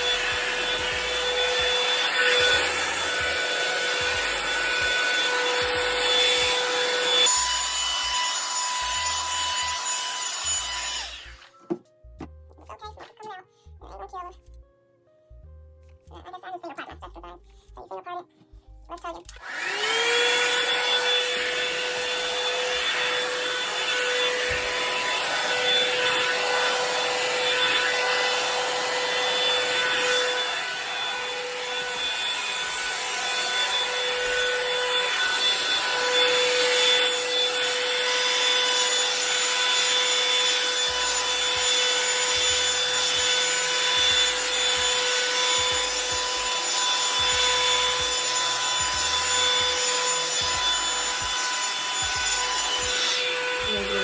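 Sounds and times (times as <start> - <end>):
hair dryer brush motor whine: 0.0 - 11.8, 19.3 - 54.0.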